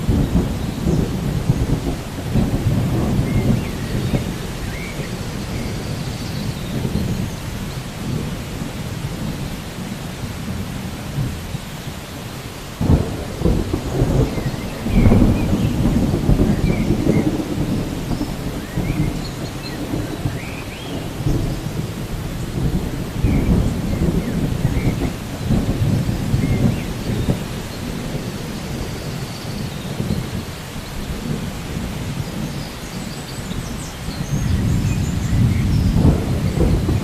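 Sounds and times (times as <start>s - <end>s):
thunderclap: 0.0s - 11.6s, 12.8s - 37.0s
rolling thunder: 0.0s - 37.0s
steady rain: 0.0s - 37.0s.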